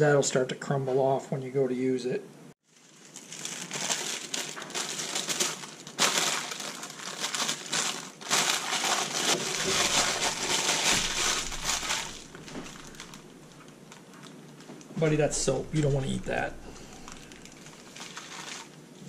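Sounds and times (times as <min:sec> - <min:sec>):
plastic bag crinkling: 0:02.7 - 0:19.0.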